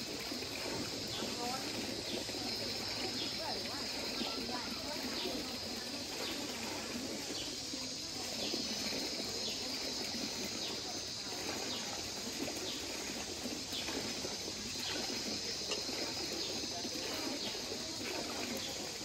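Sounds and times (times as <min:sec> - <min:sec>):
running water: 0:00.0 - 0:19.0.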